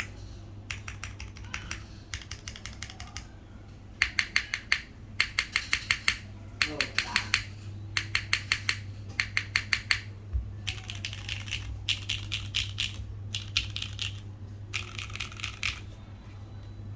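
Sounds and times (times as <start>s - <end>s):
mechanical keyboard typing: 0.0s - 3.3s, 4.0s - 15.9s.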